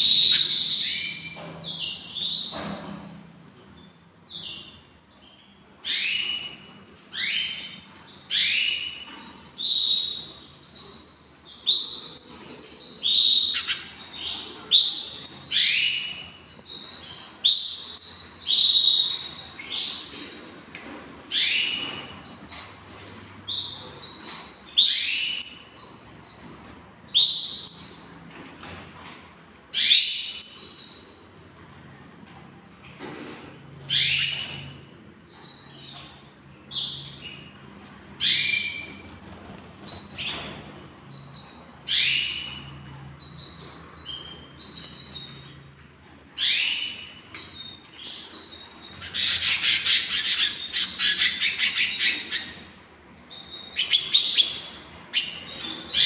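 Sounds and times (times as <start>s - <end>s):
canary chirping: 0.0s - 56.0s.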